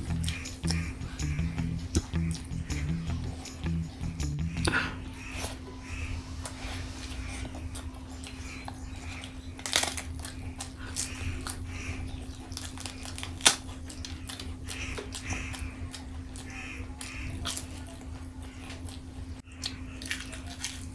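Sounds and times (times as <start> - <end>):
steady low hum: 0.0 - 20.0
person chewing: 0.0 - 20.9.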